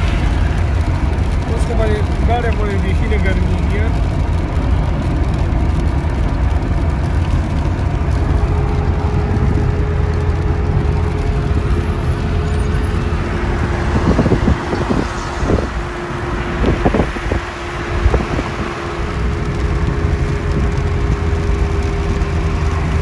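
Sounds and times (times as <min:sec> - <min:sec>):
vehicle engine and tyre rumble: 0:00.0 - 0:23.0
wind buffeting: 0:00.0 - 0:23.0.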